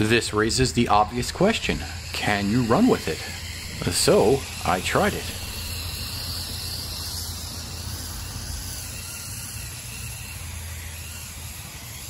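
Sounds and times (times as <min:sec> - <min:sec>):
reel lawn mower whirring: 0:00.0 - 0:12.0.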